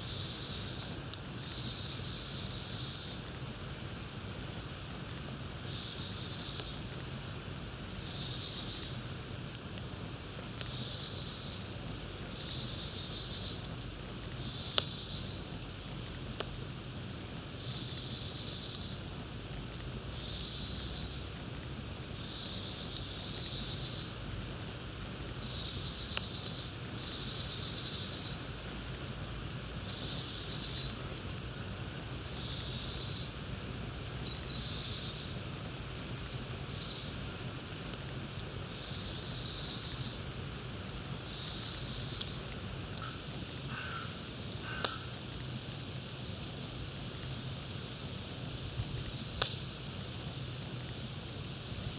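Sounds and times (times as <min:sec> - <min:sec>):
campfire crackling: 0:00.0 - 0:51.9
fire popping: 0:00.0 - 0:51.9.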